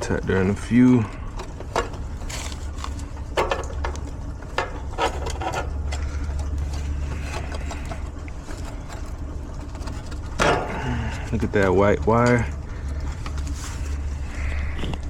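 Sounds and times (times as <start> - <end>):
low hum: 0.0 - 15.0
tools and metal parts clicking: 0.8 - 13.5.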